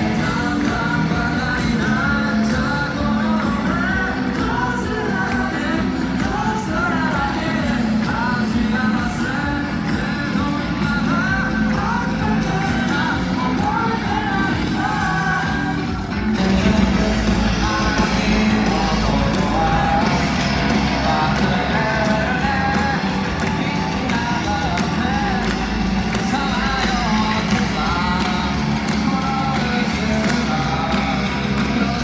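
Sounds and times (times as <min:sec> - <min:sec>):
pop-rock music with singing: 0:00.0 - 0:32.0.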